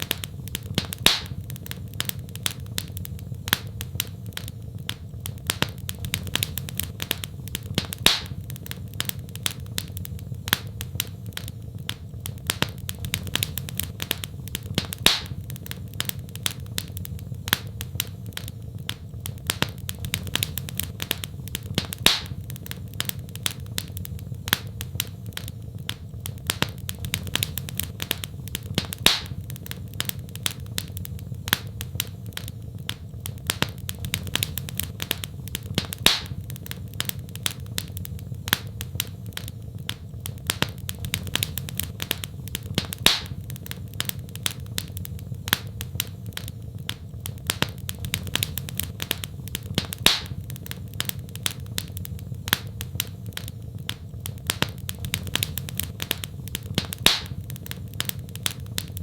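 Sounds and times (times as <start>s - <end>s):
loud fire pop: 0.0s - 59.0s
low rumble of flame: 0.0s - 59.0s
wood fire crackling: 0.0s - 59.0s.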